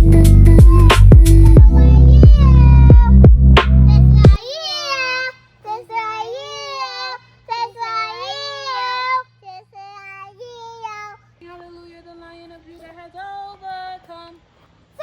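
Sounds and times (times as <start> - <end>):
child singing: 0.0 - 14.4.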